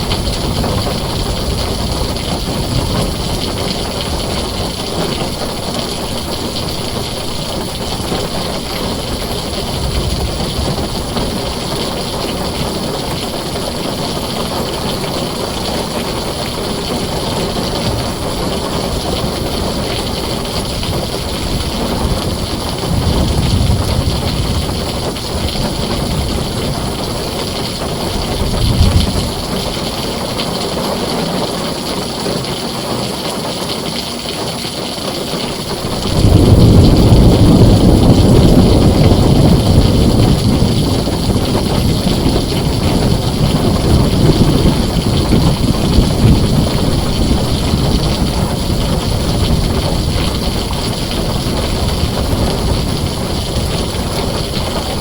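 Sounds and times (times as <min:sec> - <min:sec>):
deep thunder rumble: 0:00.0 - 0:31.7, 0:35.5 - 0:55.0
heavy rain on a tin roof: 0:00.0 - 0:55.0.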